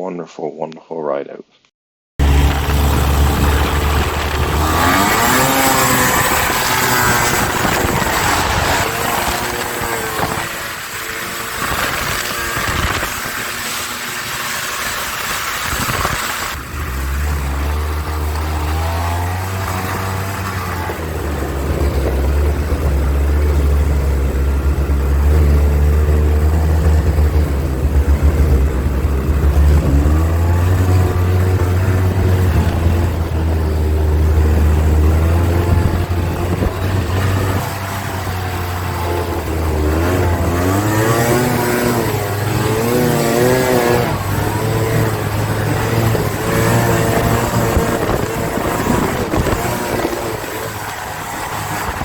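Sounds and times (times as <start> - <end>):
snowmobile engine running: 2.2 - 52.0.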